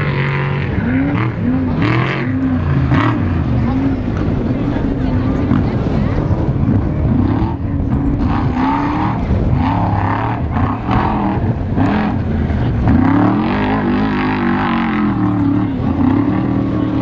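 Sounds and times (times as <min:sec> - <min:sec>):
race vehicle engine revving: 0:00.0 - 0:17.0.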